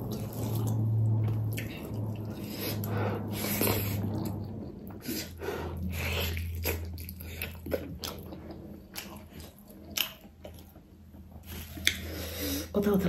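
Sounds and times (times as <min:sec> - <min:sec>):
person chewing: 0:00.0 - 0:12.7.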